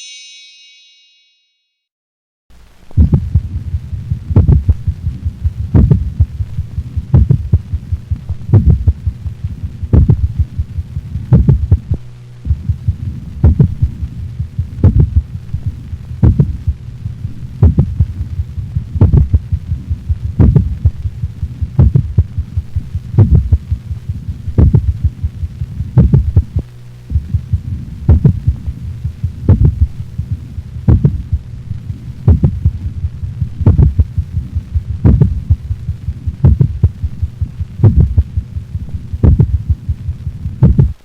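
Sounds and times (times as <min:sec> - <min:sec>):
steady low hum: 0:02.6 - 0:41.0
dog heartbeat: 0:03.0 - 0:16.8, 0:17.6 - 0:41.0.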